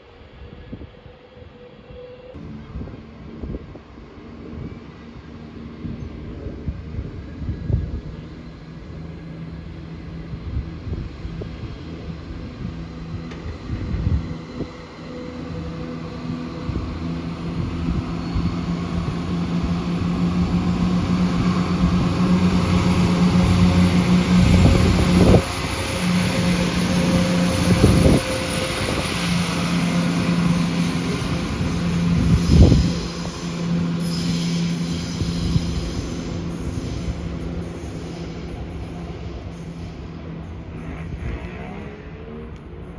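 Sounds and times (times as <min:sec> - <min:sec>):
train passing with low hum: 0:00.0 - 0:42.9.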